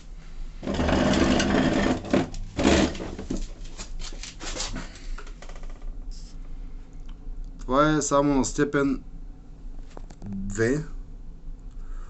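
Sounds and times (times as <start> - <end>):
stove fan hum: 0.0 - 12.0.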